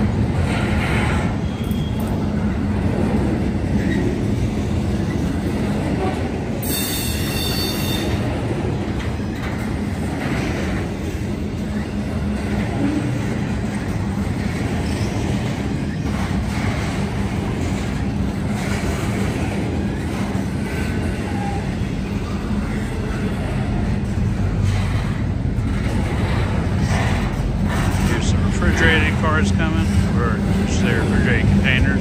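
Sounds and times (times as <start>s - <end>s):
train wheels rolling on rails: 0.0s - 32.0s.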